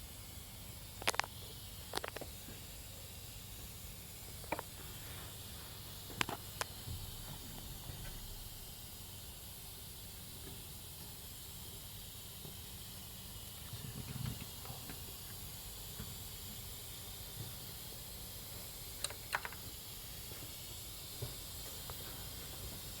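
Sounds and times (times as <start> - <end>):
air hissing from leaks: 0.0 - 23.0.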